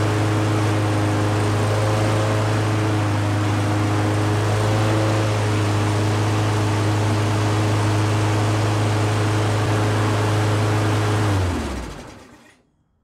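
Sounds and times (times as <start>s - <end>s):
engine winding down: 0.0s - 12.6s
mower engine running: 0.0s - 12.6s.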